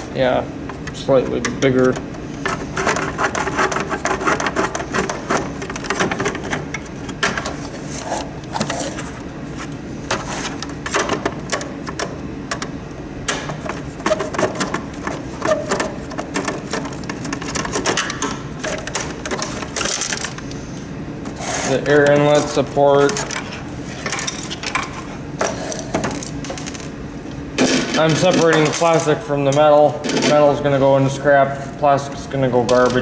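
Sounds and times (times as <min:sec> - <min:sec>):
plastic and metal parts rattling: 0:00.7 - 0:09.2, 0:10.1 - 0:12.7, 0:13.3 - 0:20.4, 0:21.5 - 0:26.9, 0:27.6 - 0:30.7, 0:32.6 - 0:33.0.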